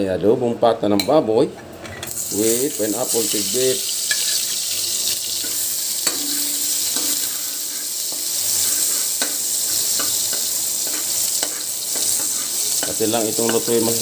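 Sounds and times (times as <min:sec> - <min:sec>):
garlic sizzling in hot oil: 0:02.1 - 0:14.0.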